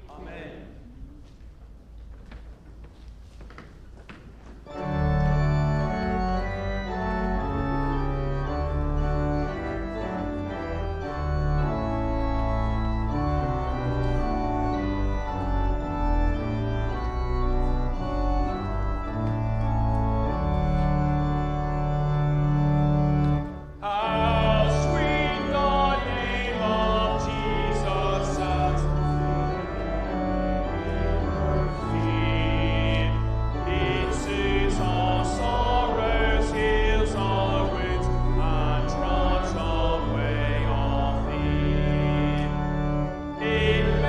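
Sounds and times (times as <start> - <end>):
church organ playing held chords: 4.6 - 44.0.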